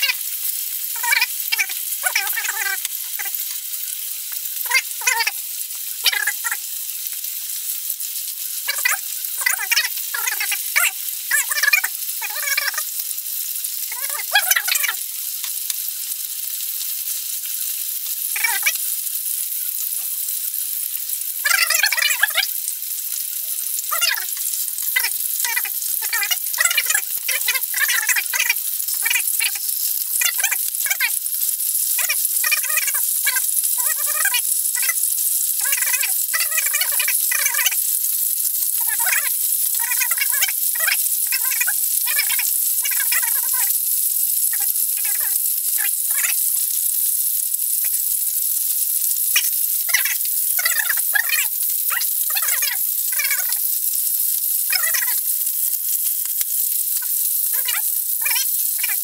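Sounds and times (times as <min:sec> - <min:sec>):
ribs sizzling in frying pan: 0:00.0 - 0:59.0.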